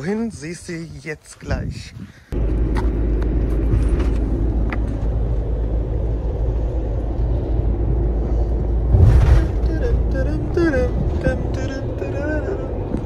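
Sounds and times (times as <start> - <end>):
vehicle road and engine rumble: 2.3 - 13.0.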